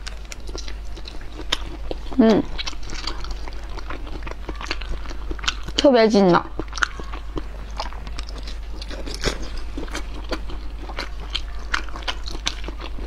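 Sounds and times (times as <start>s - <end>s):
mouth chewing with clicks and crunches: 0.0s - 13.0s.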